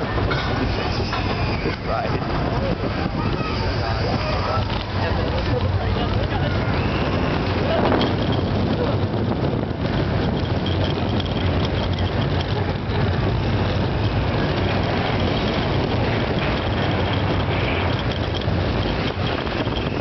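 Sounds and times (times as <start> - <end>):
roller coaster wheels rumbling on rails: 0.0 - 20.0.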